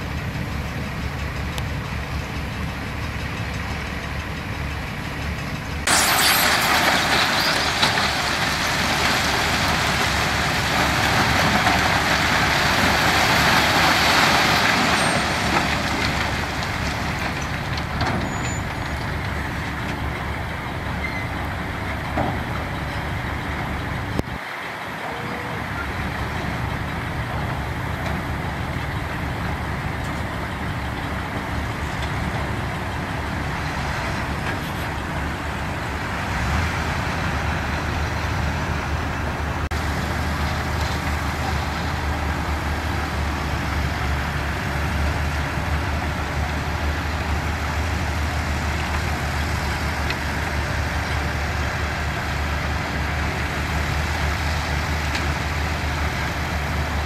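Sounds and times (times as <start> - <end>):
diesel machinery rumbling: 0.0 - 57.0.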